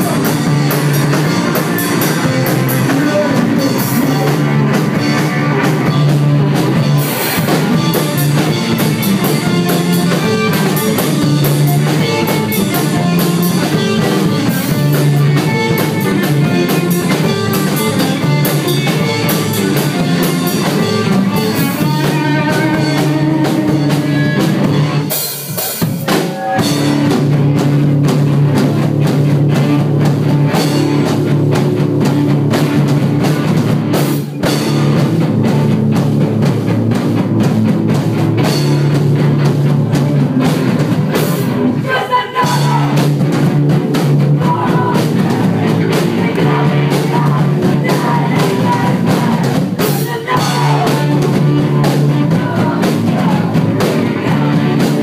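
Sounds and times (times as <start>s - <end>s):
loud punk band playing: 0.0s - 55.0s.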